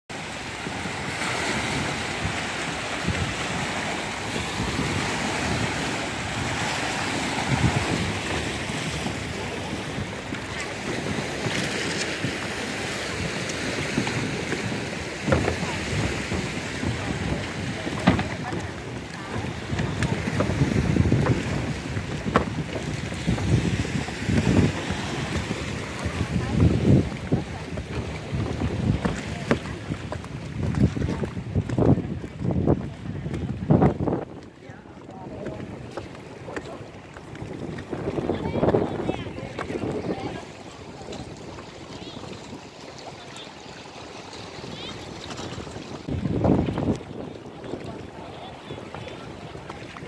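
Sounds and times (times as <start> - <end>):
sea waves washing: 0.1 - 50.0
wind gusting on microphone: 0.1 - 50.0.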